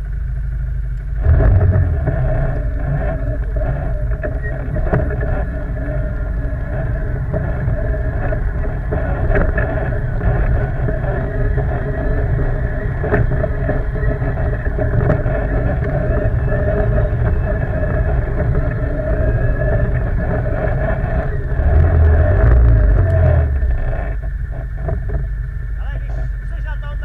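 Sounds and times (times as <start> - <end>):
quad engine running: 0.0 - 27.0.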